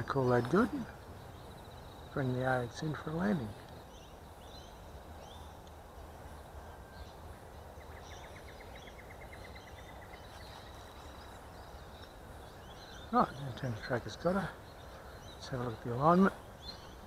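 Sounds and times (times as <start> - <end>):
birds chirping: 0.0 - 17.0
low steady hiss: 0.0 - 17.0.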